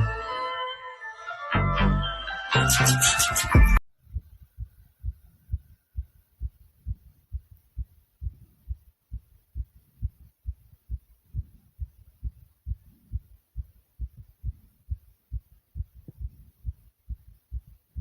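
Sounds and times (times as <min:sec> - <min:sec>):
fast heartbeat thumps: 0:03.5 - 0:18.0.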